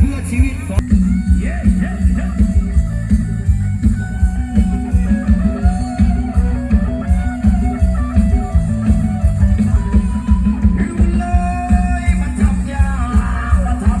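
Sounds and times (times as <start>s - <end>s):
electric plucked-string melody: 0.0s - 14.0s
heavy bass line: 0.0s - 14.0s
steady drum beat: 0.0s - 14.0s.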